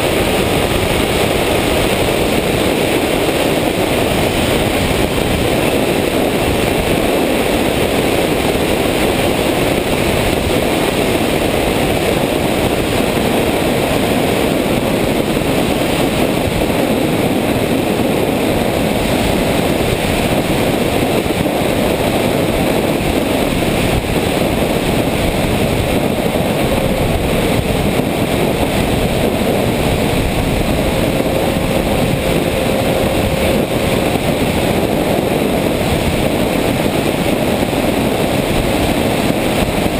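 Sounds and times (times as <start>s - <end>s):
plane motor and propeller: 0.0s - 39.9s
wind rushing over microphone: 0.0s - 39.9s.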